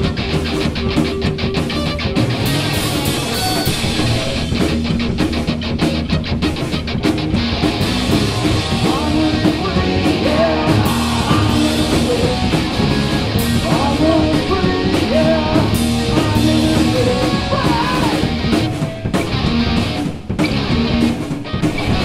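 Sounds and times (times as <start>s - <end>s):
bass guitar: 0.0s - 22.0s
distorted electric guitars: 0.0s - 22.0s
drum kit: 0.0s - 22.0s.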